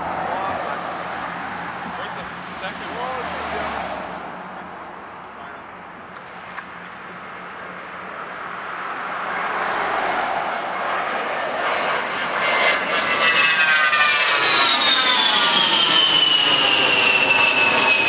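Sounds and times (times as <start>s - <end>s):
high jet whine: 0.0s - 18.0s
jet passing overhead: 0.0s - 18.0s.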